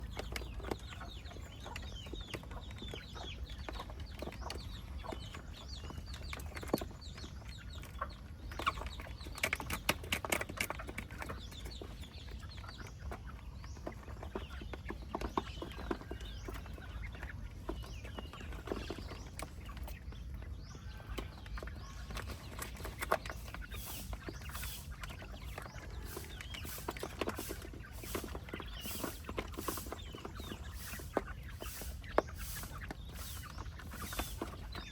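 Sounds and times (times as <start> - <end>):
chickens clucking and peeping: 0.0 - 34.9.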